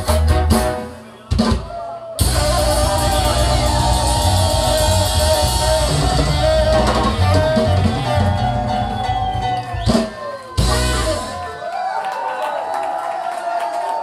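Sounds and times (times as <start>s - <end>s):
ska band playing live: 0.0s - 11.6s.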